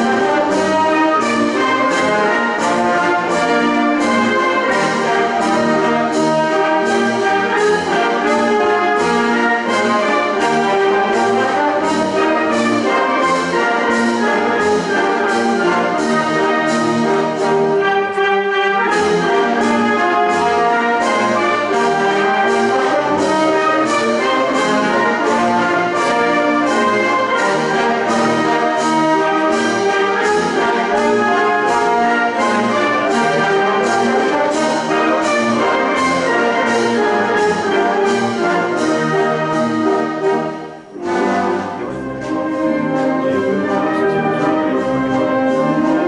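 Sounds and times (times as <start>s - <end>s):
wind band playing brass: 0.0s - 46.0s.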